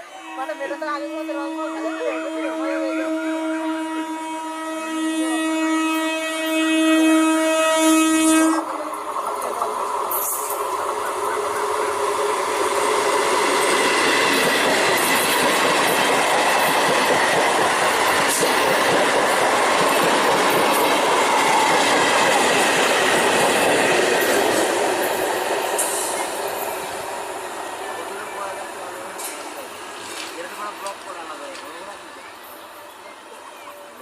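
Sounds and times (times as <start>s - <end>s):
electric train running by: 0.0s - 34.0s.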